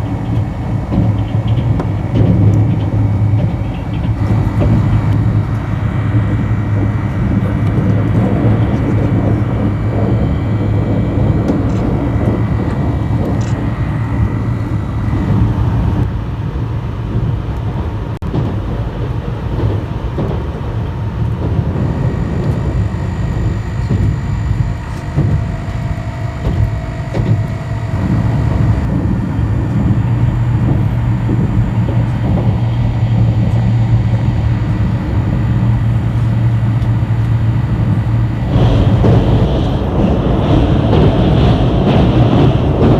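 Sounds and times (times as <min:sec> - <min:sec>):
low hum: 0:00.0 - 0:42.9
train wheels rumbling on rails: 0:00.0 - 0:42.9.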